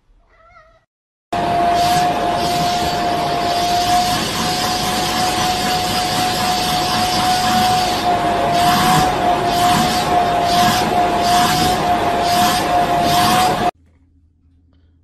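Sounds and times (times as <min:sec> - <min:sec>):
vacuum cleaner running: 0:01.3 - 0:13.8.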